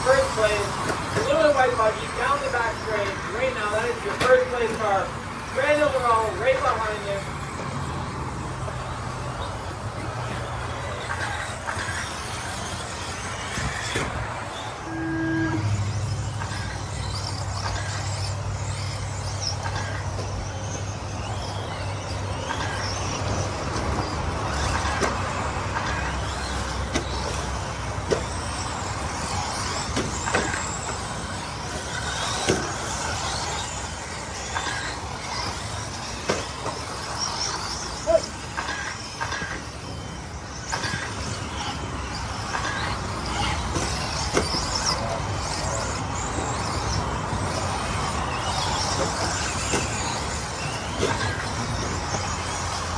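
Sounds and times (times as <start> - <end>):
rc car motors whining: 0.0 - 52.9.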